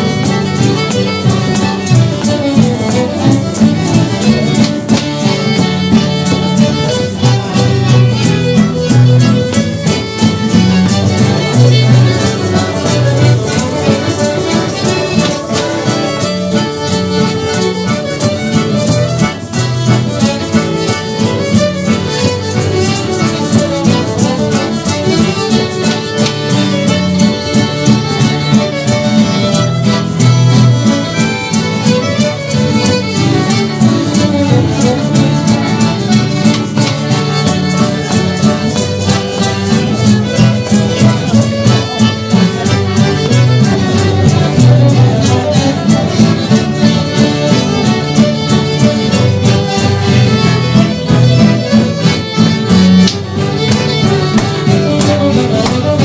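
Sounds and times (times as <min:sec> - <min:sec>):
fiddle playing a tune: 0:00.0 - 0:56.0
guitar accompaniment: 0:00.0 - 0:56.0
steady beat: 0:00.0 - 0:56.0.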